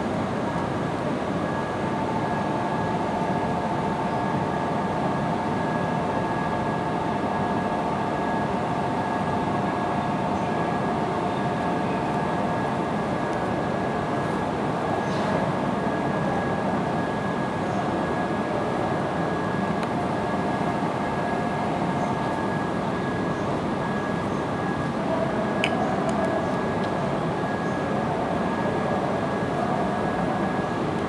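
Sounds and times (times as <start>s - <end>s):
train equipment humming and hissing: 0.0s - 31.0s.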